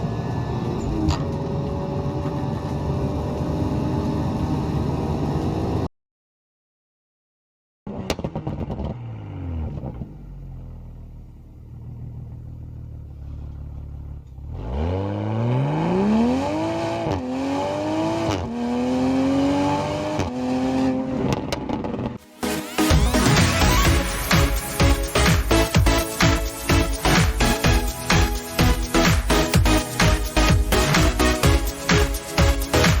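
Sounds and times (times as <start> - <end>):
car engine accelerating through gears: 0.0 - 5.9, 7.9 - 33.0.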